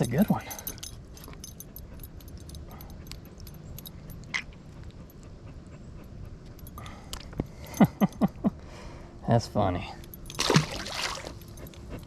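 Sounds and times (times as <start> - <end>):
faint clicking and jingling: 0.0 - 8.6, 9.3 - 12.0.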